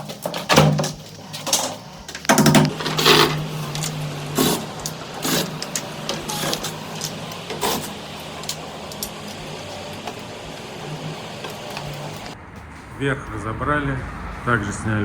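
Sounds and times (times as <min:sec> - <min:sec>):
steady low hum: 0:00.0 - 0:12.4
tools knocking and scraping: 0:00.0 - 0:12.4.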